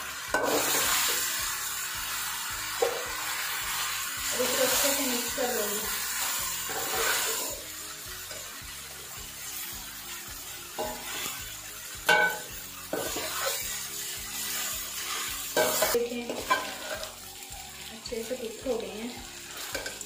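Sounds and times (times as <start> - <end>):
noodles sizzling in a pan: 0.0 - 20.0
metal spoon scraping a pan: 0.2 - 1.4, 2.7 - 17.4, 19.3 - 20.0.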